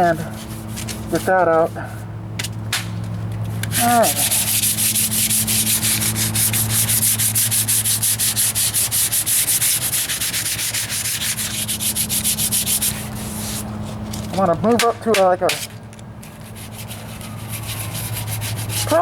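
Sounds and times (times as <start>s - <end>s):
sandpaper scratching: 0.0s - 2.0s, 3.5s - 19.0s.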